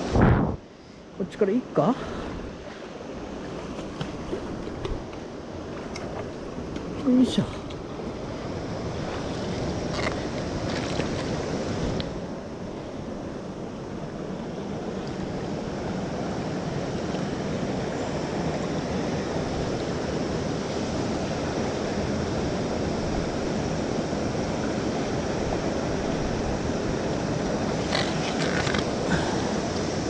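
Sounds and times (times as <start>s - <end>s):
river current rushing: 0.0s - 30.0s.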